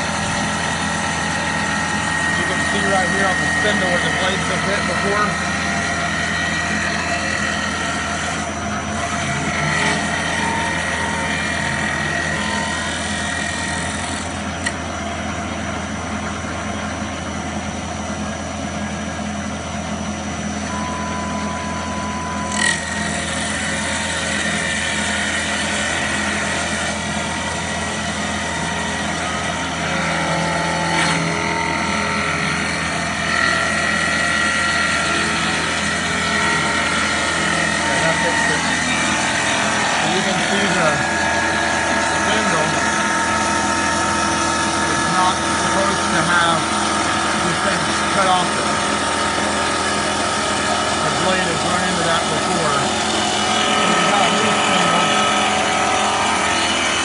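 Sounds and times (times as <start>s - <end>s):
wood lathe cutting wood: 0.0s - 16.3s, 21.7s - 57.0s.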